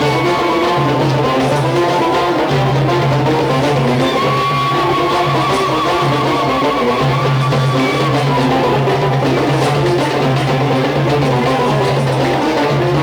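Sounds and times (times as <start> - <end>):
bass line: 0.0 - 13.0
hand drums: 0.0 - 13.0
plucked strings: 0.0 - 13.0.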